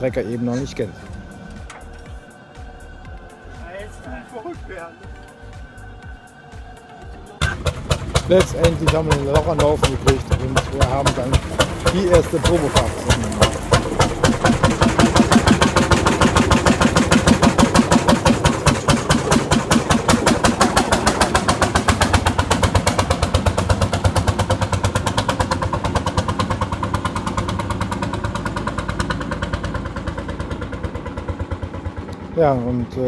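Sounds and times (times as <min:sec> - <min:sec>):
tractor engine thumping: 0:00.0 - 0:03.1, 0:06.6 - 0:33.0.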